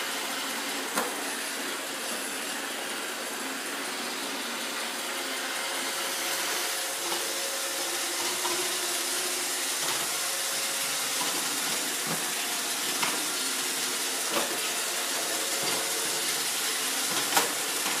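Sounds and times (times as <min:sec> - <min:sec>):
robot vacuum whirring: 0:00.0 - 0:18.0.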